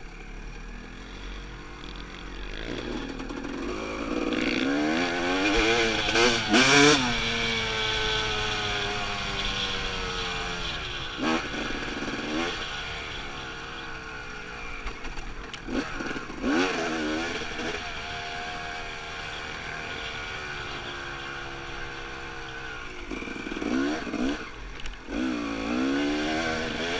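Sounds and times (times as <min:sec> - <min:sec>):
dirt bike engine revving: 0:00.7 - 0:26.9.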